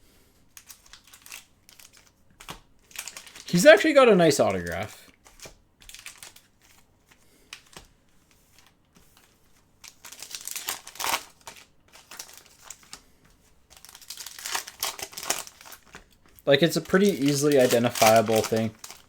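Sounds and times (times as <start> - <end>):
plastic wrapping crinkling: 0.6 - 7.8, 8.6 - 19.0.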